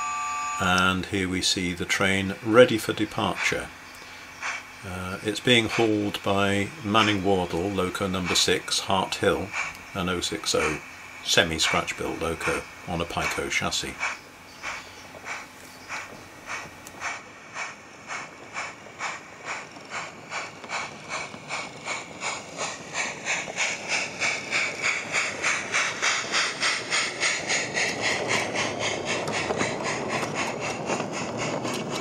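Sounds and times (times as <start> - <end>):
model locomotive steam chuffs: 0.0 - 32.0
wagons rattling on track: 0.6 - 32.0.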